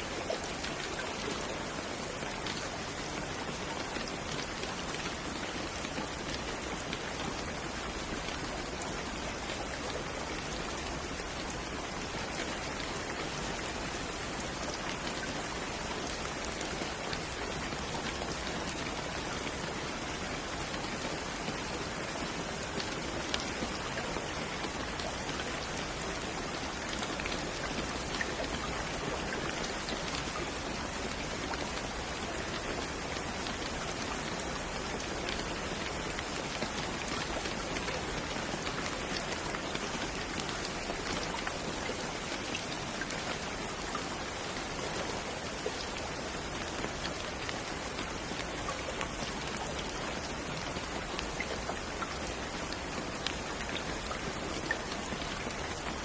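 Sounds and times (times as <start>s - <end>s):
rain hissing on a surface: 0.0s - 56.0s
sharp ticks of raindrops: 0.0s - 56.0s.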